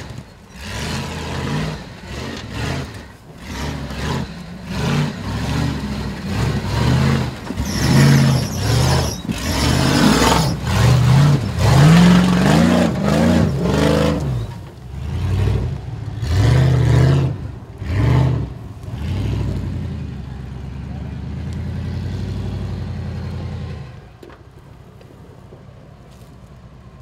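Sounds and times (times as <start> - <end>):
truck engine revving: 0.0 - 24.1.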